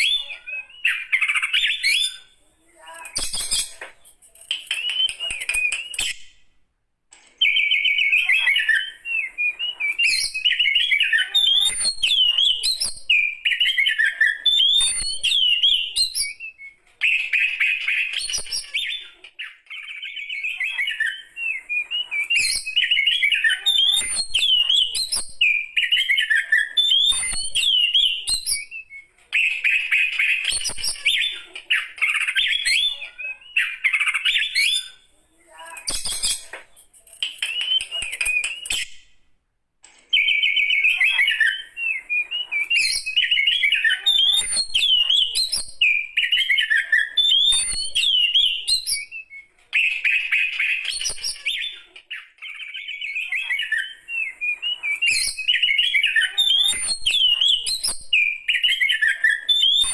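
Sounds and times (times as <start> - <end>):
bird singing warbling song: 0.0 - 6.4, 7.3 - 39.2, 40.1 - 59.9.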